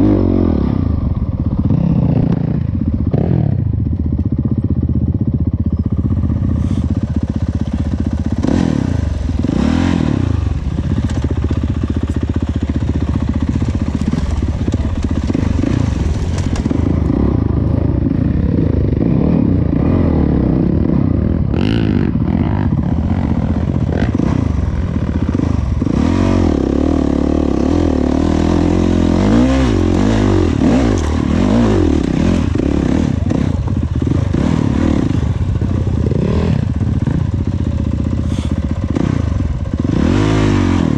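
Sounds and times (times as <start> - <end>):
dirt bike engine revving: 0.0 - 3.7, 5.8 - 40.9.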